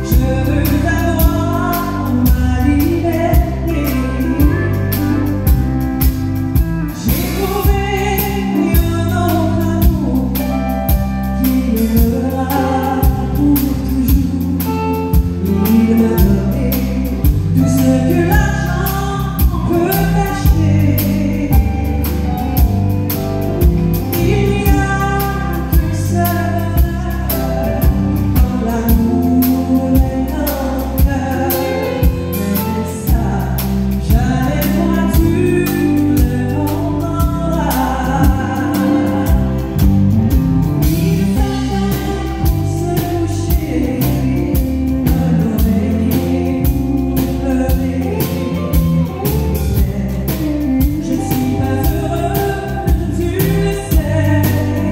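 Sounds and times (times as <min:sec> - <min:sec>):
woman singing into microphone: 0:00.0 - 0:22.7, 0:23.9 - 0:54.9
live country band: 0:00.0 - 0:54.9.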